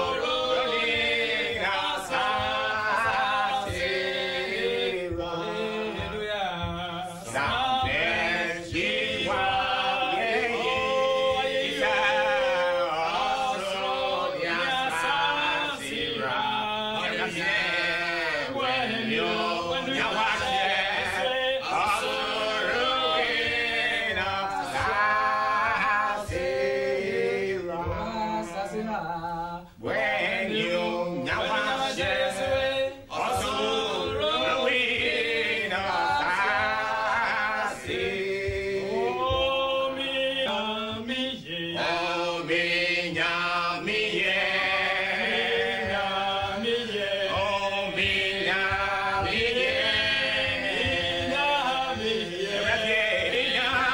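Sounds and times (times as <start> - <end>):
men singing a cappella: 0.0 - 53.9.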